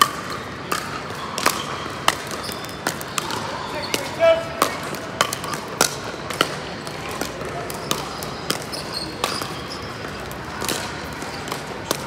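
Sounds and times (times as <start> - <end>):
paddles hitting plastic ball: 0.0 - 12.0.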